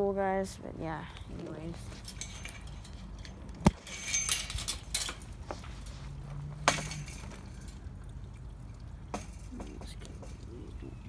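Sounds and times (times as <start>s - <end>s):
wire fence clinking: 1.5s - 11.0s.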